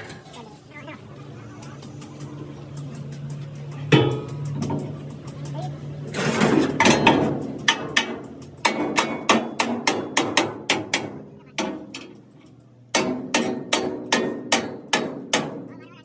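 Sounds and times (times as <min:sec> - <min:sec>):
hammer striking metal: 0:01.8 - 0:15.8.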